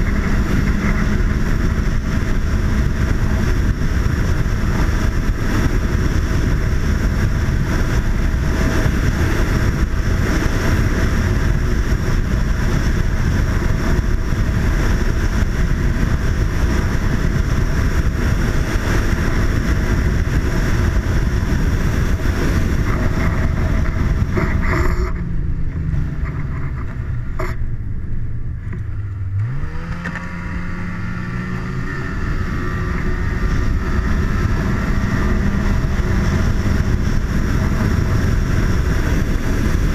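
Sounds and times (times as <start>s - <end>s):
snowmobile engine: 0.0s - 39.9s.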